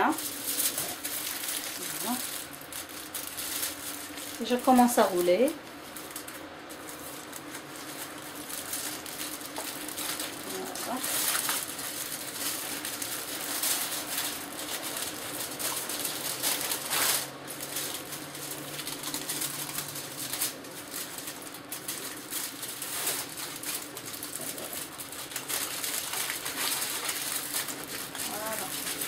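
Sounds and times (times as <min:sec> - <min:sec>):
aluminium foil crinkling: 0:00.0 - 0:29.0.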